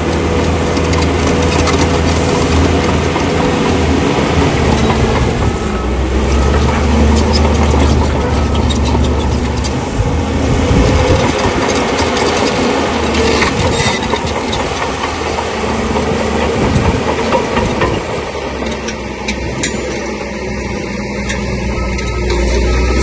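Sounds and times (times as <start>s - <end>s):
bulldozer diesel engine: 0.0s - 23.0s
steel tracks clanking: 0.0s - 23.0s.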